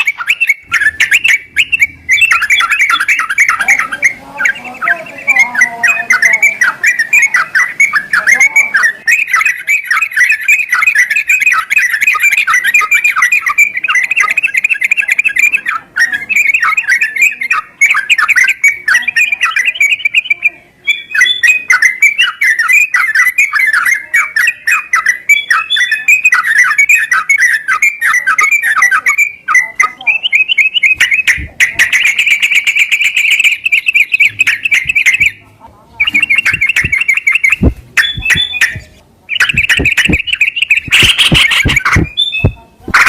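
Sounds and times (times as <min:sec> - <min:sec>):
bulbuls chattering and singing: 0:00.0 - 0:43.0.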